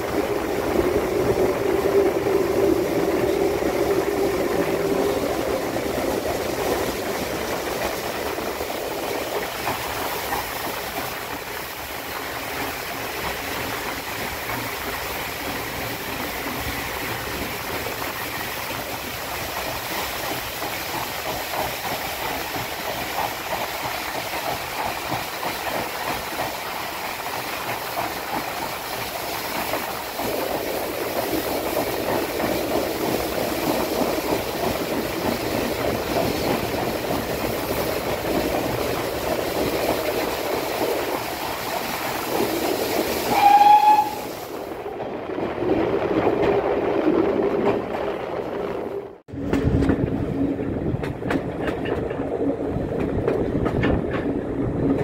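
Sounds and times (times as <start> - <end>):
steam train rumbling in tunnel: 0.0 - 55.0.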